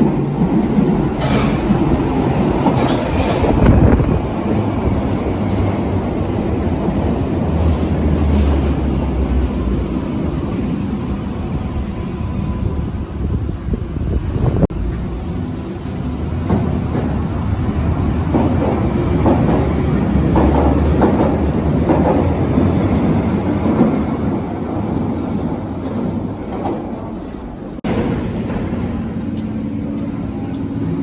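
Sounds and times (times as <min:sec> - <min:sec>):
train clattering: 0:00.0 - 0:09.5, 0:14.6 - 0:31.0
train wheels rumbling on rails: 0:00.0 - 0:31.0.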